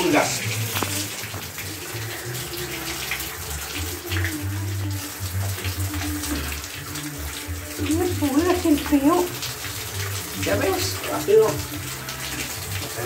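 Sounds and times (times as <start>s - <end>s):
water running from tap into tub: 0.0s - 13.0s.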